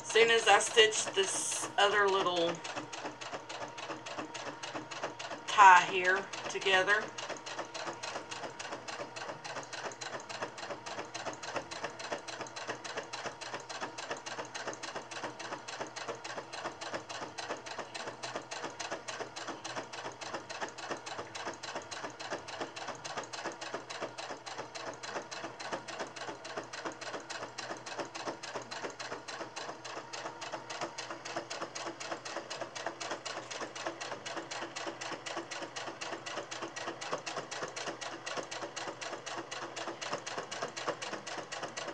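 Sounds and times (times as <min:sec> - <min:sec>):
sewing machine stitching: 0:00.0 - 0:41.9.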